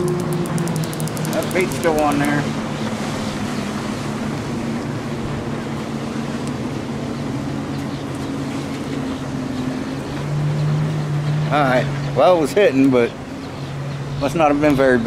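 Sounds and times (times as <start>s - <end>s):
motorboat engines droning: 0.0s - 15.0s.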